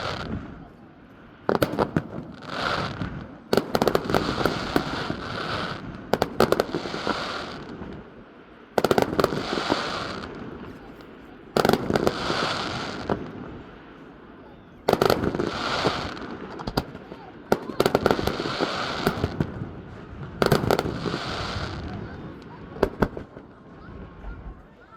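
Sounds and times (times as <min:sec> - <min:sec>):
fireworks crackling hiss: 0:00.0 - 0:24.2
fireworks bangs: 0:00.0 - 0:24.8.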